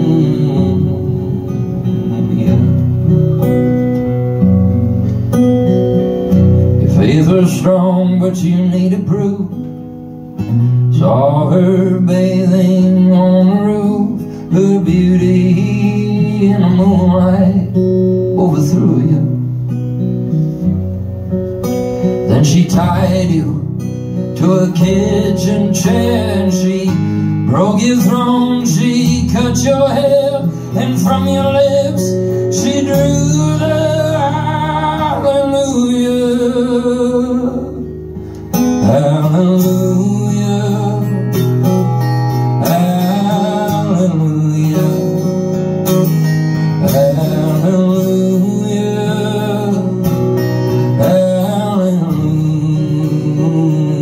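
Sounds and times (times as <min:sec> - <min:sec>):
man singing: 0:00.0 - 0:03.0, 0:06.8 - 0:09.8, 0:10.6 - 0:19.6, 0:22.1 - 0:54.0
acoustic guitar: 0:00.0 - 0:54.0.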